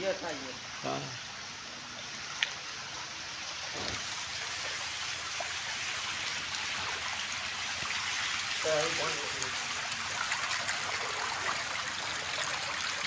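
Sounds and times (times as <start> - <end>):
shallow water rushing and splashing: 2.0 - 13.0.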